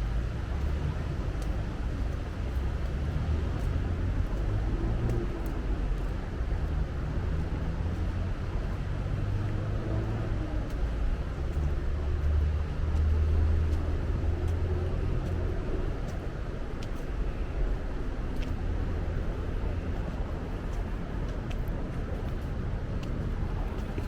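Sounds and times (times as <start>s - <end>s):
faint ticks: 0.0s - 24.0s
street traffic rumble: 0.0s - 24.0s.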